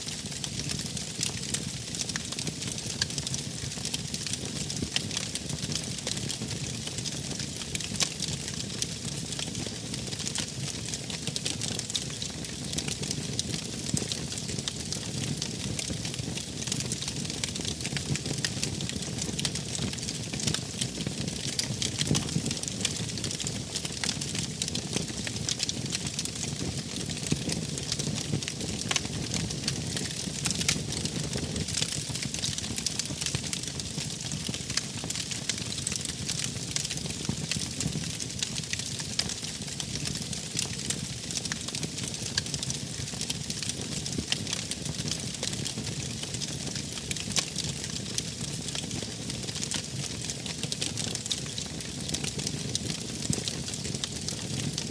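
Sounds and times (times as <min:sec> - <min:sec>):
wood fire crackling: 0:00.1 - 0:54.9.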